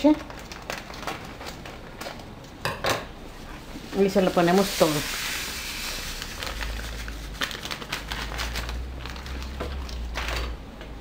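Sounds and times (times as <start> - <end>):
plastic bag crinkling: 0.0 - 2.4, 4.0 - 10.6.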